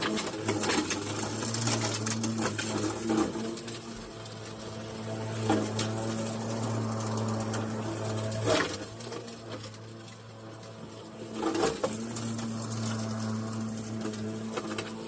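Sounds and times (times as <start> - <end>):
lawn mower blade hum: 0.0 - 15.0.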